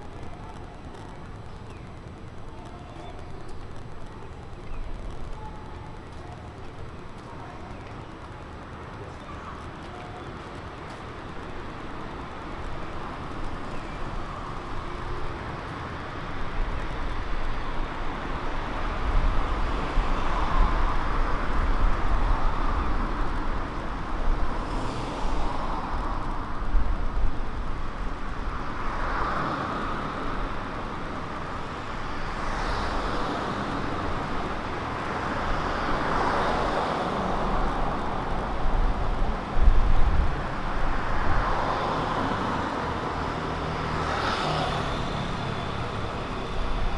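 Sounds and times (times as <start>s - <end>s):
cars passing: 8.4s - 46.9s.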